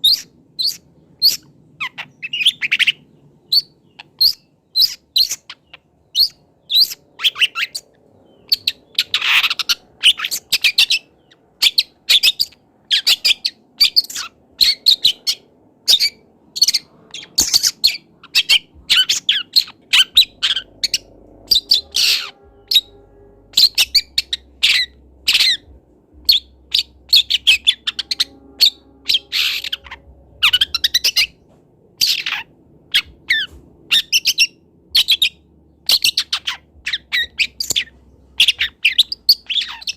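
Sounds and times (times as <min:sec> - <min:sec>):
bird chirps and squawks: 0:00.0 - 0:31.4, 0:32.0 - 0:39.9.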